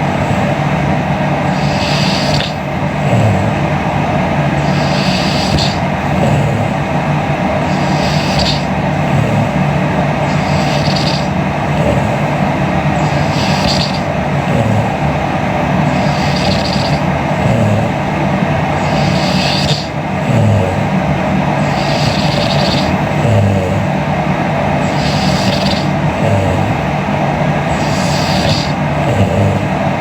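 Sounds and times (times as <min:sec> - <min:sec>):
woman breathing in sleep: 0:00.0 - 0:30.0.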